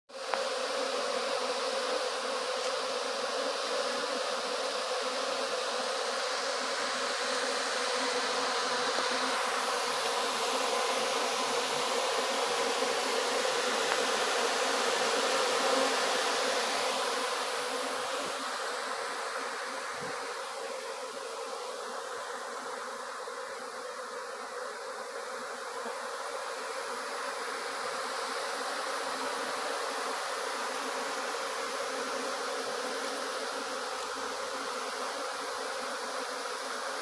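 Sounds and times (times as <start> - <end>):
bees buzzing: 0.1 - 37.0.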